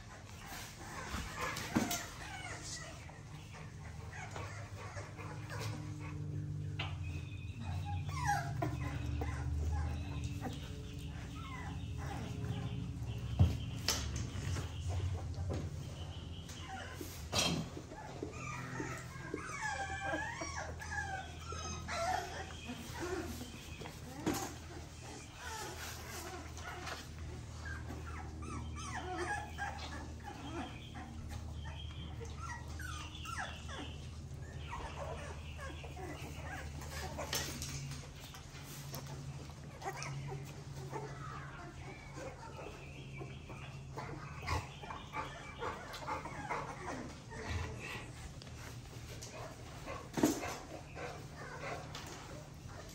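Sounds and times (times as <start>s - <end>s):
puppy whimpering: 0.0s - 52.9s.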